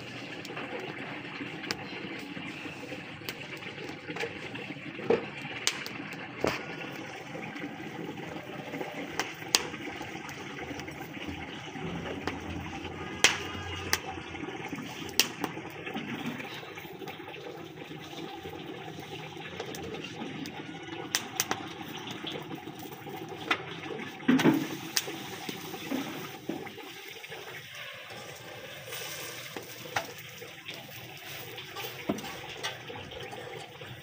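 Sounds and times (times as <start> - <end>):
crackles and clicks: 0.0 - 34.0
flatbread sizzling: 0.0 - 34.0.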